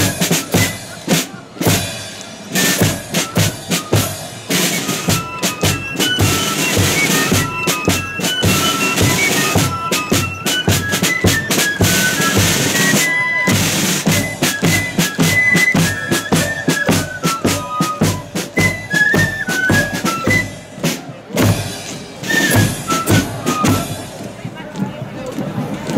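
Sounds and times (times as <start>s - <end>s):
flutes playing melody: 0.0s - 24.3s
snare drums: 0.0s - 25.9s.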